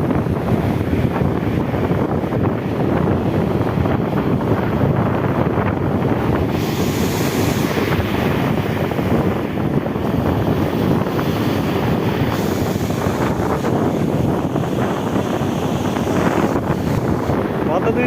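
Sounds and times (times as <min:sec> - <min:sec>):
surf on beach: 0:00.0 - 0:18.0
wind buffeting microphone: 0:00.0 - 0:18.0.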